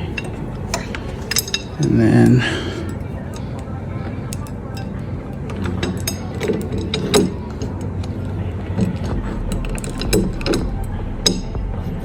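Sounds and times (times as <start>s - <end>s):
metallic clicks and clunks of lock parts: 0.0s - 3.7s, 4.3s - 11.6s.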